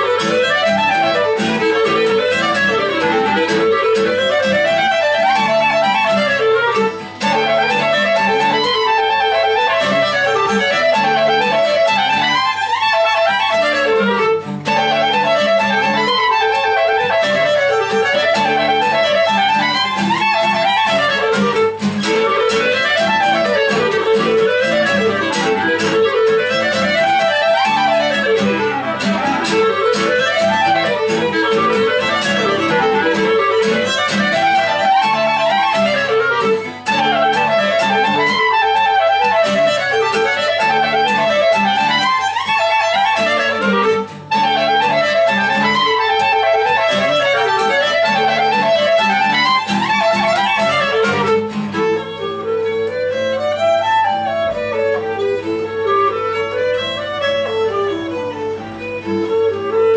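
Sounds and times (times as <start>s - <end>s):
acoustic folk trio playing: 0.0s - 59.9s.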